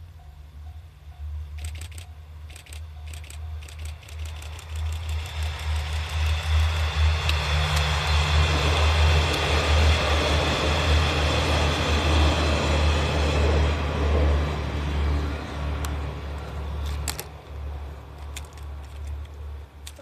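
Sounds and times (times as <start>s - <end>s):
diesel railcars passing: 0.0s - 20.0s.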